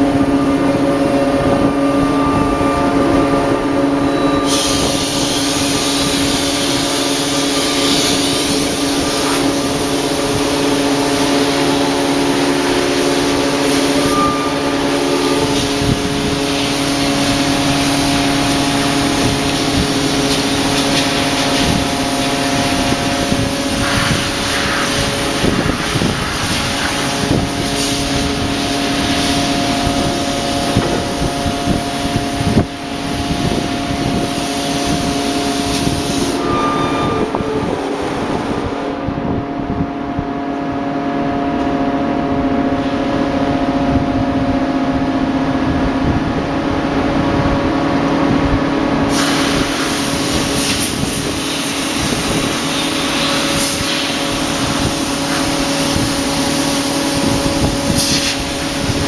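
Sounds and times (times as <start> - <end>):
loud high hiss: 0.0 - 39.4, 49.0 - 59.0
forging machine hum: 0.0 - 59.0.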